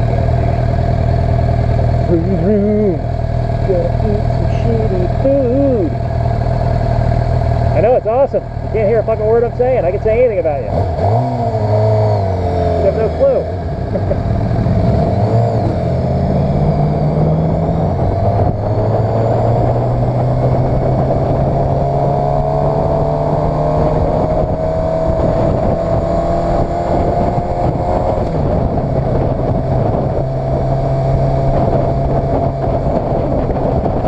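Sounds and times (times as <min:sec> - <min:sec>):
motorcycle engine running: 0:00.0 - 0:34.0
rushing wind: 0:00.0 - 0:34.0.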